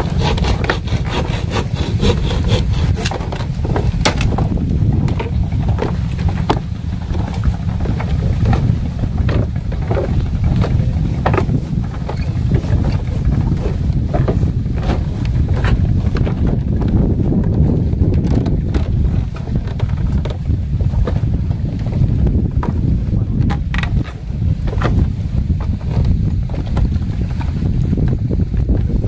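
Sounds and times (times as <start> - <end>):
footsteps on bamboo planks: 0.0 - 29.0
steady low rumble: 0.0 - 29.0.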